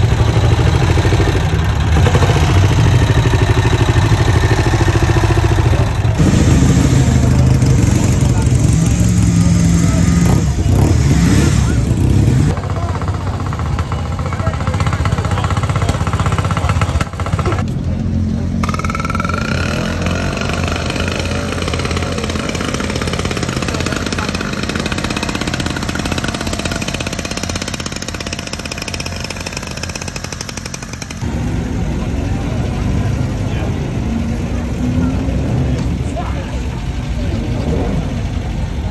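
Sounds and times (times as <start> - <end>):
motorcycle engines running: 0.0 - 38.9.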